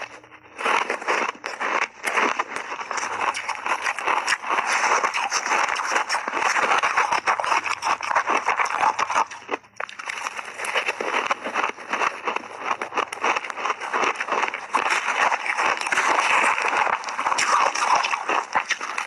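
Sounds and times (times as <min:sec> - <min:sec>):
chewing crunchy shaved ice: 0:00.0 - 0:19.0.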